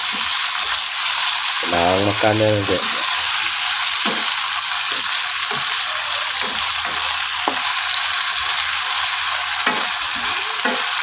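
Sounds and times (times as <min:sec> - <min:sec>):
spatula stirring in pan: 0:00.0 - 0:02.0, 0:02.8 - 0:11.0
fish sizzling in oil: 0:00.0 - 0:11.0.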